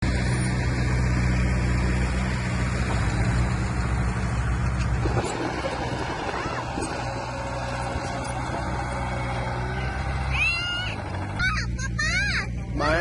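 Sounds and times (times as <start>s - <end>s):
heavy diesel engine hum: 0.0s - 13.0s.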